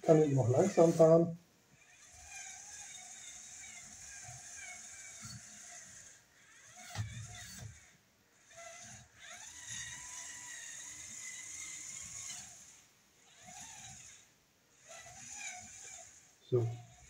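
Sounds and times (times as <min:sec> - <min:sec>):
toy electric motors whining: 0:00.0 - 0:17.0.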